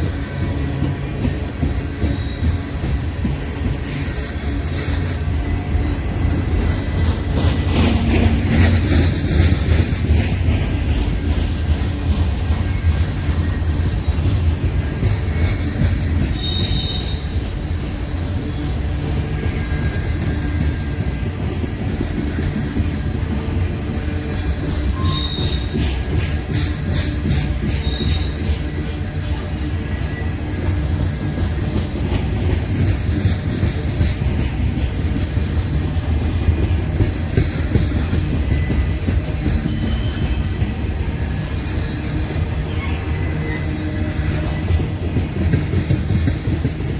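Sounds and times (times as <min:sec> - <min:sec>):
train rumbling past: 0:00.0 - 0:46.9
train wheel squeal: 0:00.0 - 0:46.9.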